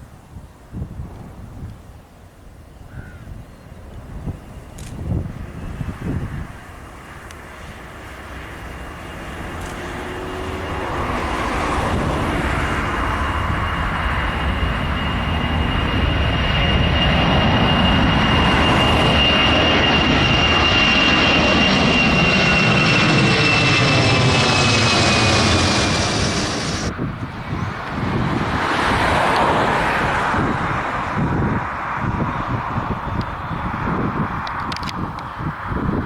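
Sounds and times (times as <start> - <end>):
high steady jet whine: 3.3 - 36.0
jet engine roar: 3.3 - 36.0.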